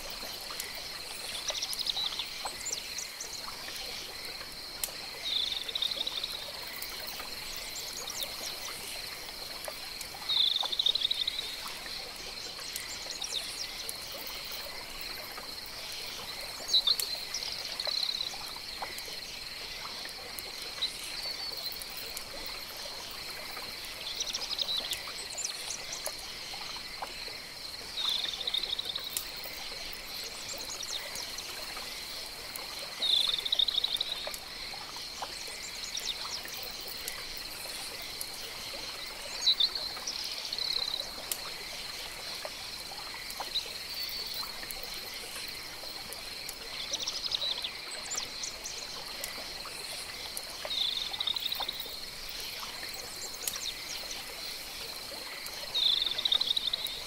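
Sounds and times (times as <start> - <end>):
faint trickle of water: 0.0 - 57.0.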